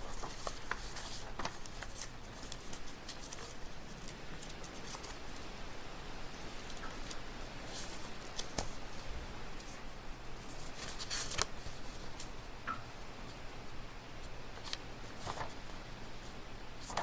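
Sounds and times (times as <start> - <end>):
clicks and rustles of handling: 0.0 - 5.5, 6.3 - 9.8, 10.4 - 12.9, 14.2 - 17.0
low room hum: 0.0 - 17.0.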